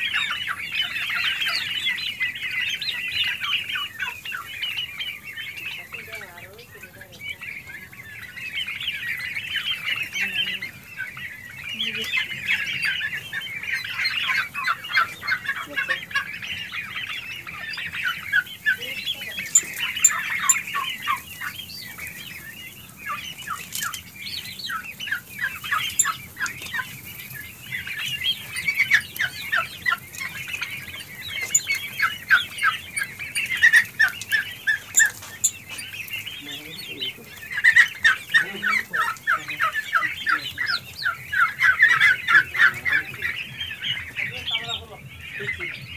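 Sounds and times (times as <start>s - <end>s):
turkey poults peeping and chirping: 0.0s - 45.9s.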